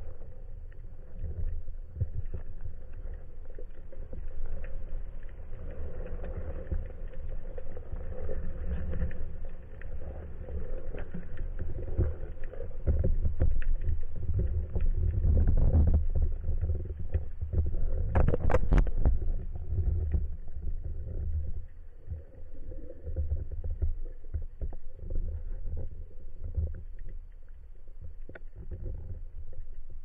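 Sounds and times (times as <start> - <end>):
low rumble of water moving: 0.0 - 30.0
clicks underwater: 0.1 - 30.0.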